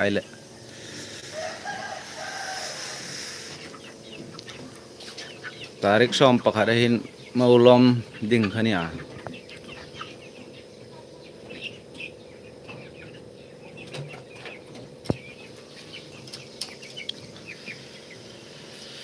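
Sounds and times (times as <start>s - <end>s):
birds chirping: 0.0s - 19.0s
steady background hum: 0.0s - 19.0s.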